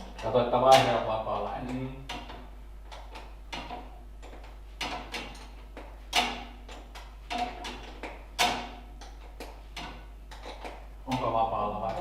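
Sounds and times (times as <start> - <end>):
sharp metallic clicks and clunks: 0.0 - 12.0.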